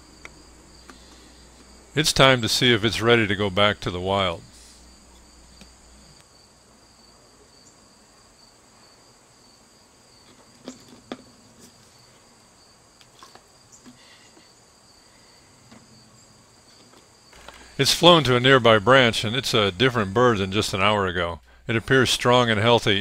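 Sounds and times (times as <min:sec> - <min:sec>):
insect chorus trilling: 0:00.0 - 0:19.9.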